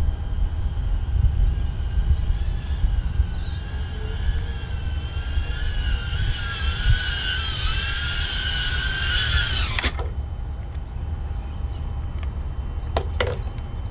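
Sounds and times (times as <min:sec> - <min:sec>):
quadcopter motors whining: 0:00.0 - 0:13.9.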